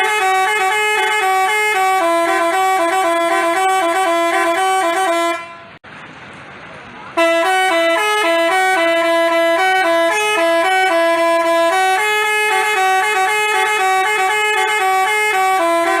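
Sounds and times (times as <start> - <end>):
multi-tone bus horn melody: 0.0 - 5.8, 7.2 - 16.0.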